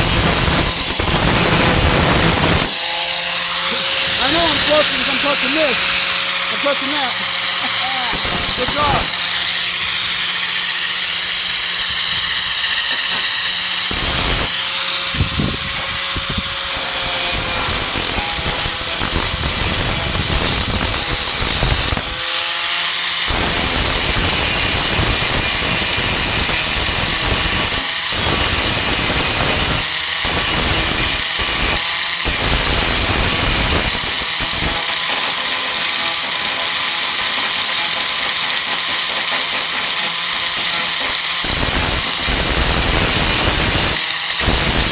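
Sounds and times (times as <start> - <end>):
angle grinder grinding metal: 0.0 - 44.9.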